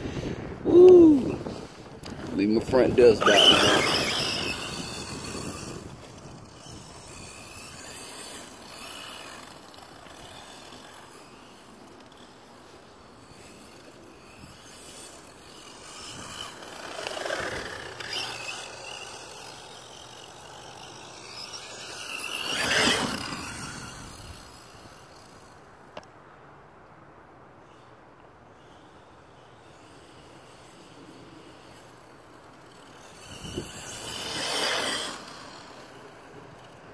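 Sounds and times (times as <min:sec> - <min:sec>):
electric motor whine: 0:01.2 - 0:25.7, 0:28.6 - 0:36.9.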